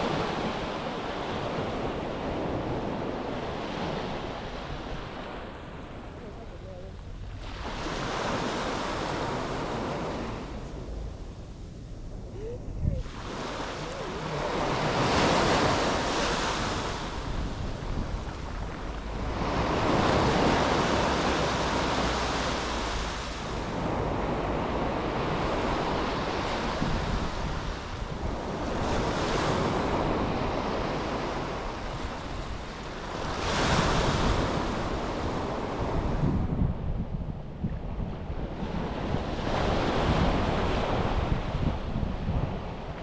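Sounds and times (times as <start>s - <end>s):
sea waves breaking on beach: 0.0s - 11.1s, 12.2s - 36.2s, 38.4s - 43.0s
wind rumbling on microphone: 0.0s - 43.0s.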